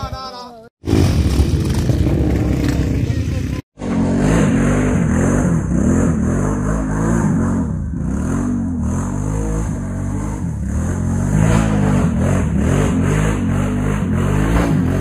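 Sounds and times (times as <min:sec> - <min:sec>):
quad engine revving: 0:00.8 - 0:15.0.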